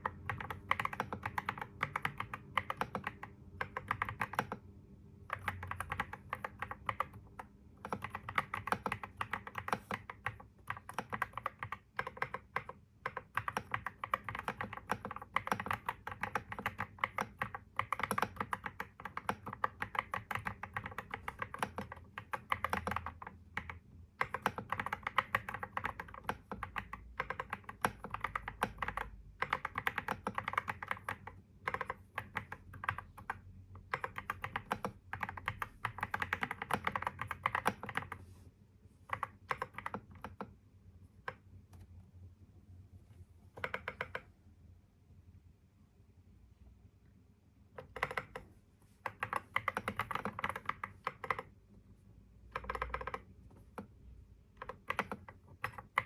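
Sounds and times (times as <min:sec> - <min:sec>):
computer keyboard typing: 0:00.0 - 0:38.4, 0:39.0 - 0:40.6, 0:41.2 - 0:41.8, 0:43.5 - 0:44.3, 0:47.8 - 0:51.6, 0:52.4 - 0:56.0.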